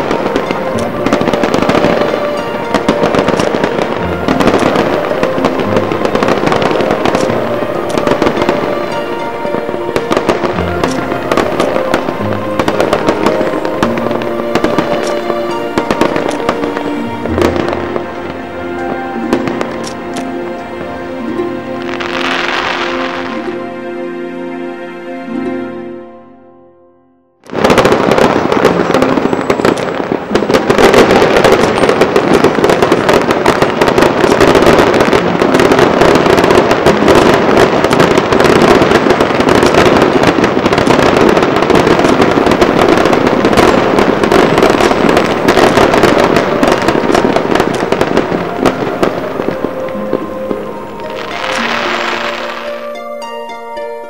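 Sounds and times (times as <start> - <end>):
fireworks crackling and popping: 0.0 - 23.6, 27.4 - 53.0.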